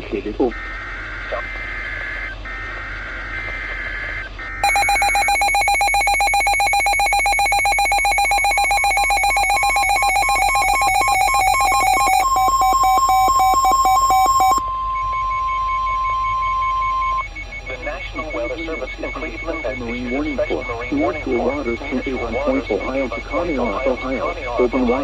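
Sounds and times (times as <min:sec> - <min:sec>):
steady warning alarm tone: 0:00.4 - 0:25.0
rapidly pulsing alert tone: 0:04.6 - 0:25.0
warbling digital header tones: 0:04.6 - 0:25.0.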